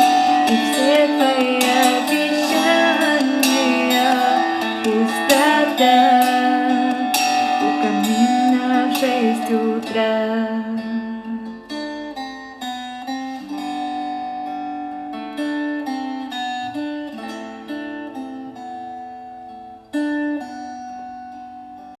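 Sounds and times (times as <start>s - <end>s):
plucked guitar notes: 0.0s - 21.9s.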